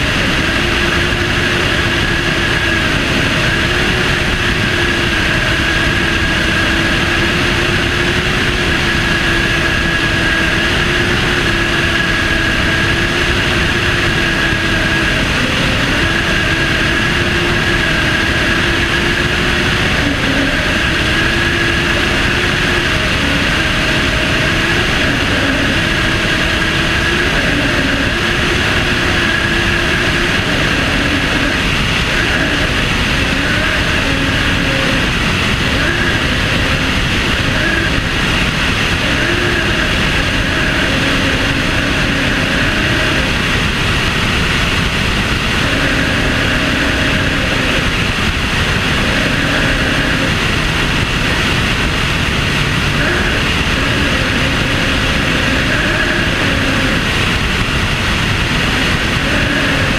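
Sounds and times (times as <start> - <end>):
aircraft engine drone: 0.0 - 59.9
rushing airflow: 0.0 - 59.9.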